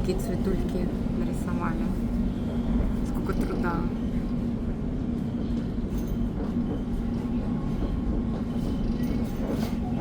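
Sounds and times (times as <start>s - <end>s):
train rumbling from inside carriage: 0.0s - 10.0s.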